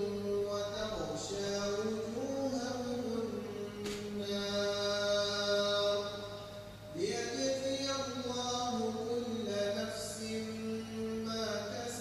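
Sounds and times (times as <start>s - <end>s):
low electrical hum: 0.0s - 12.0s
man chanting melodically: 0.0s - 12.0s.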